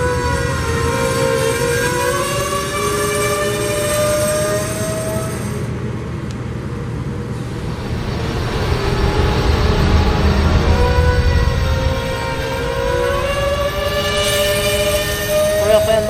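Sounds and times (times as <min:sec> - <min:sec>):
locomotive horn chord: 0:00.0 - 0:05.7, 0:07.4 - 0:16.0
locomotive rumble: 0:00.0 - 0:16.0.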